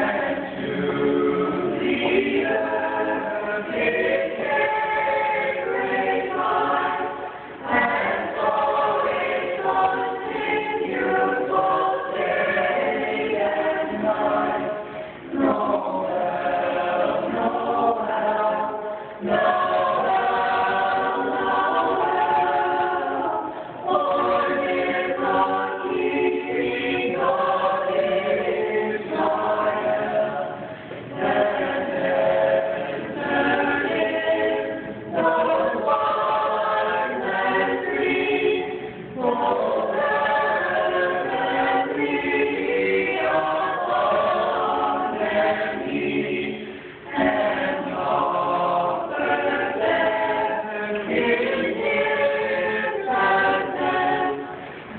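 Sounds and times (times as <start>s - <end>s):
choir singing a cappella: 0.0s - 54.9s.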